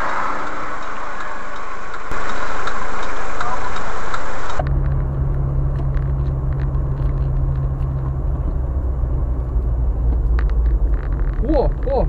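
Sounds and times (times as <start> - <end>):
car engine and road rumble: 0.0 - 12.0
low hum: 0.0 - 12.0.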